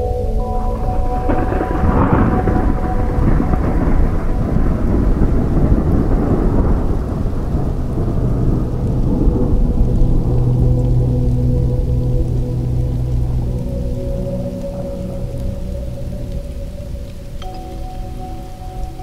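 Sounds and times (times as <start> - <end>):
rolling thunder: 0.0 - 19.0
soft background music: 0.0 - 19.0
steady rain: 0.0 - 19.0.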